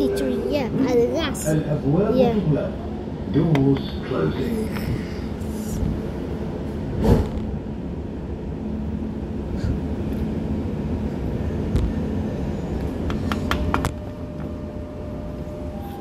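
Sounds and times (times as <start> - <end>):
train rumbling and humming: 0.0 - 16.0.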